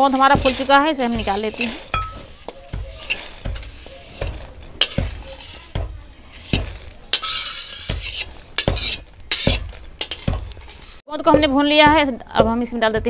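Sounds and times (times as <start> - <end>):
ladle clinking and scraping on wok: 0.0 - 11.0.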